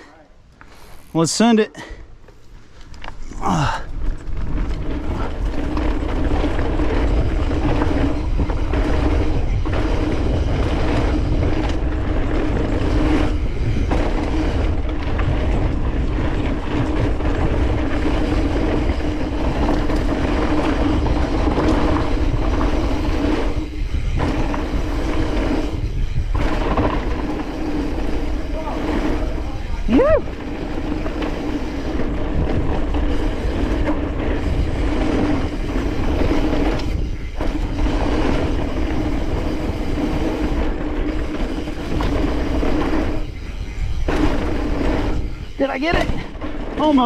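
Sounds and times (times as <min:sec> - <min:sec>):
bike rattling over ground: 0:02.3 - 0:47.0
wind rushing over microphone: 0:02.7 - 0:47.0.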